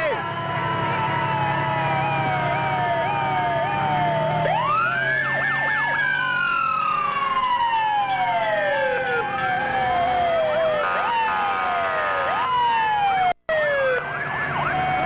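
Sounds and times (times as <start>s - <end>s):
fire engine siren winding: 0.0s - 15.0s
sirens sweeping up and down: 0.0s - 15.0s.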